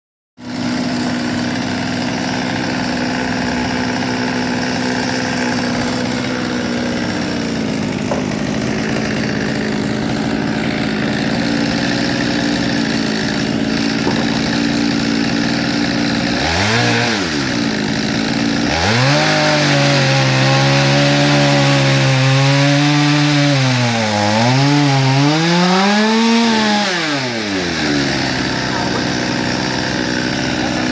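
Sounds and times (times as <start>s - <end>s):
chainsaw cutting wood: 0.4s - 30.9s.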